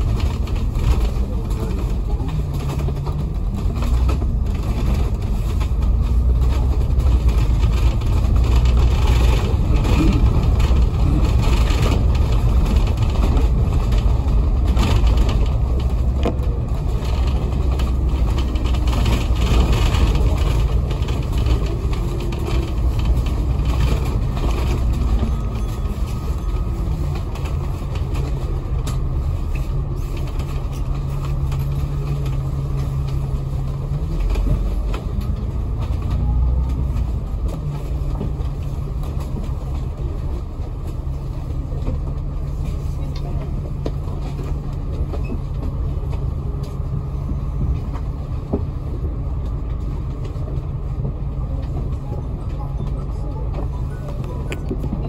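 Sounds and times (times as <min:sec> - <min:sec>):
bus engine rumbling: 0:00.0 - 0:55.0.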